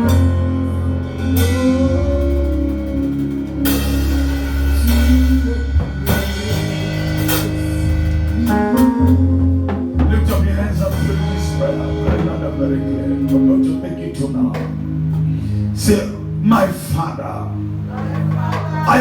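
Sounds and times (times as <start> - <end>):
drums: 0.0 - 17.0, 17.7 - 19.0
sustained chords over bass: 0.0 - 19.0.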